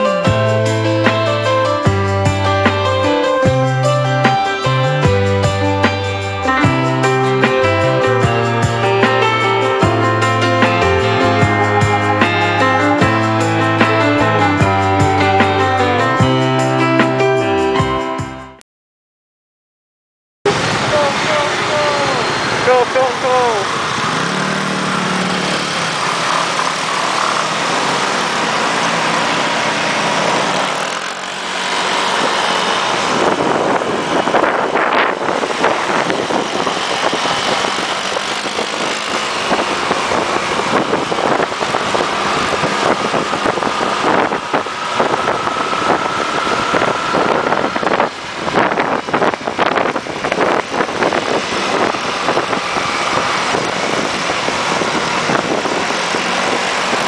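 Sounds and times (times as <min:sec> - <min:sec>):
road and wind noise: 0:00.0 - 0:18.5, 0:20.5 - 0:57.0.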